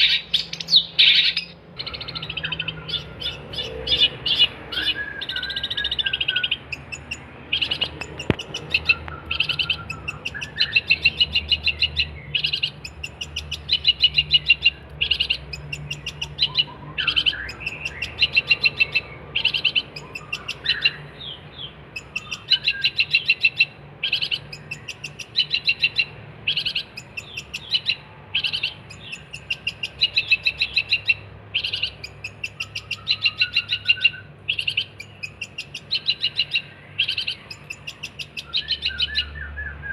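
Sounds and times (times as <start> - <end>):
bird rattling song: 0.0 - 39.8.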